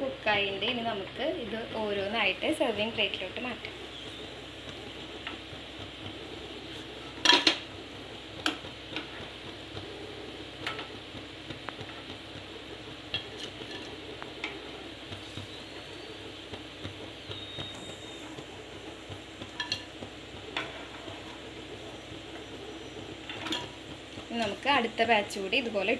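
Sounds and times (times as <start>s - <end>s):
food deep-frying in oil: 0.0s - 25.9s.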